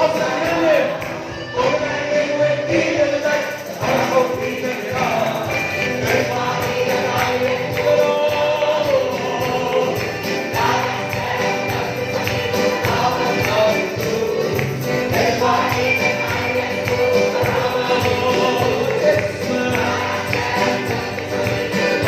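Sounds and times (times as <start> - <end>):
choir singing a hymn: 0.0 - 22.0
percussion beat: 0.0 - 22.0.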